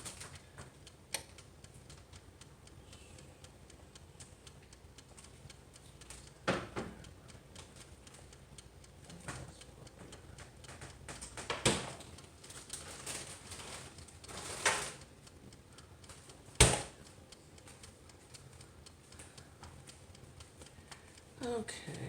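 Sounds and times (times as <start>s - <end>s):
faint steady ticking: 0.0s - 22.0s.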